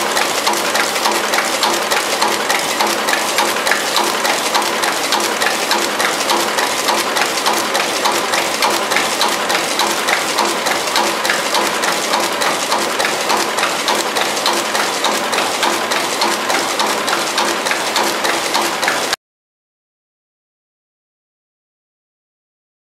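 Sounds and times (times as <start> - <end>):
packing machine clattering: 0.0 - 19.2.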